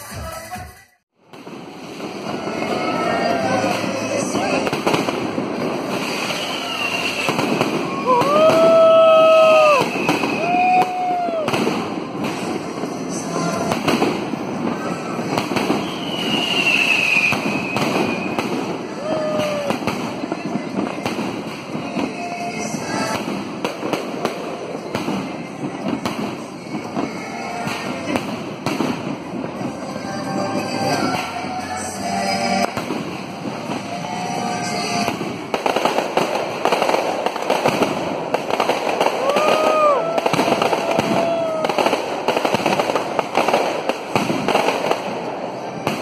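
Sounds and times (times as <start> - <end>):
fireworks bangs: 0.0 - 46.0
fireworks crackling: 0.0 - 46.0.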